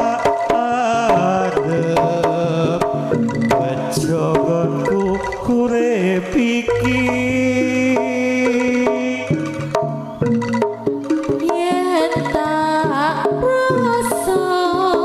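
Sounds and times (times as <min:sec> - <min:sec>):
bending melody: 0:00.0 - 0:15.0
drum strokes: 0:00.0 - 0:15.0.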